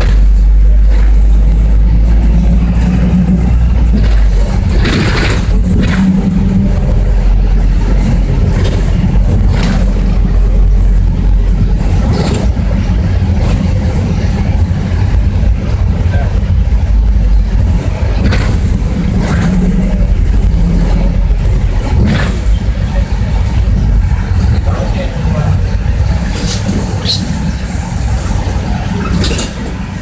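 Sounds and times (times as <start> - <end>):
bus body clattering: 0.0 - 30.0
bus diesel engine droning: 0.0 - 30.0
road noise: 0.0 - 30.0.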